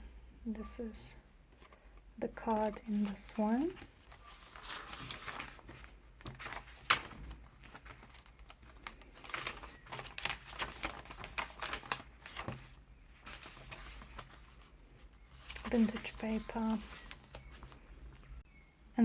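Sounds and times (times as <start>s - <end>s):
paper pages rustling: 1.5s - 18.4s.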